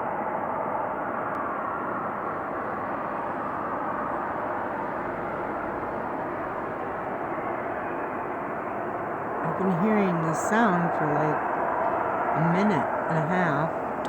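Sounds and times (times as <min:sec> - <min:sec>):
loud steady jet-like roar: 0:00.0 - 0:14.0.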